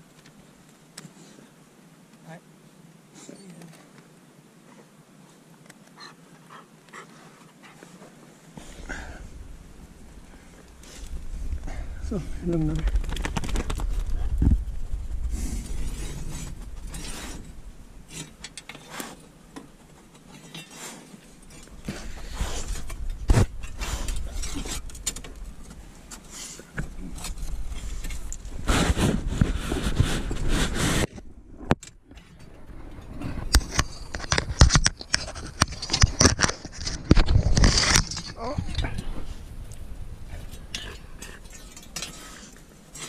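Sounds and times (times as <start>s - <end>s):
scraping among rocks: 7.2s - 31.6s, 32.6s - 43.0s.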